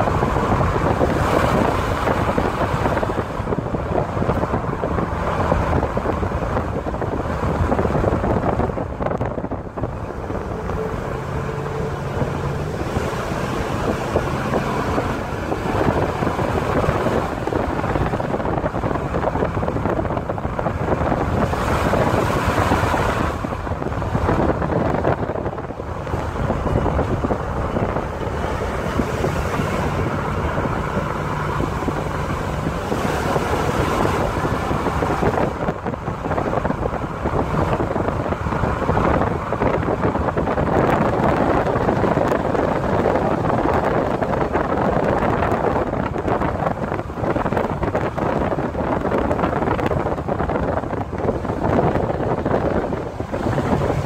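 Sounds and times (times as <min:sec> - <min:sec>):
low engine hum: 0:00.0 - 0:54.0
road noise: 0:00.0 - 0:54.0
wind buffeting microphone: 0:00.0 - 0:54.0.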